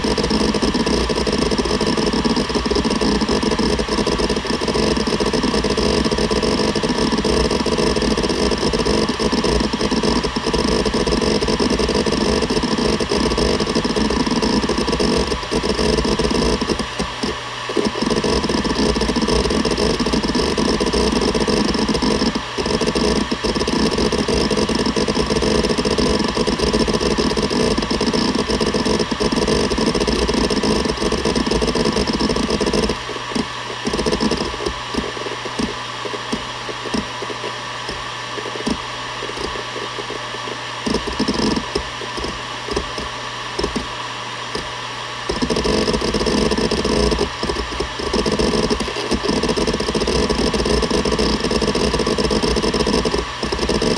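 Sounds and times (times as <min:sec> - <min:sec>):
hard drive seek clicks: 0:00.0 - 0:53.9
hard drive spinning whine: 0:00.0 - 0:53.9.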